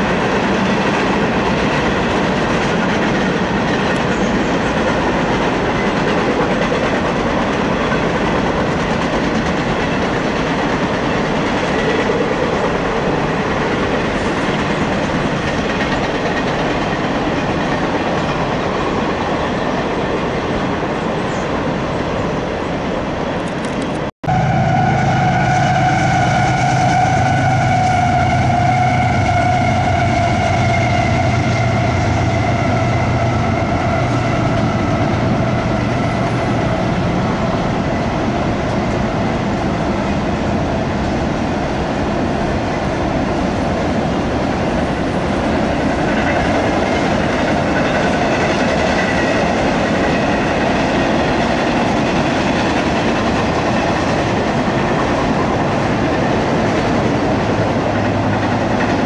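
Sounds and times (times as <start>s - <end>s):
freight train wheels clattering: 0.0s - 21.4s, 25.4s - 59.0s
diesel locomotive engine drone: 0.0s - 59.0s.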